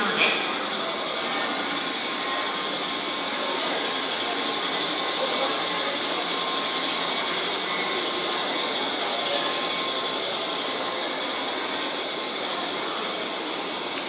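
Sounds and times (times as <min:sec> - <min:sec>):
electric train whirring hum: 0:00.0 - 0:14.0.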